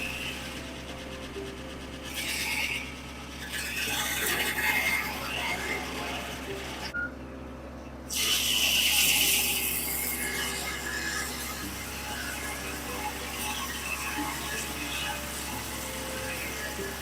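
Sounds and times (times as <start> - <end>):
saw cutting hiss: 0.0 - 6.9, 8.1 - 17.0
sawmill power unit drone: 0.0 - 17.0.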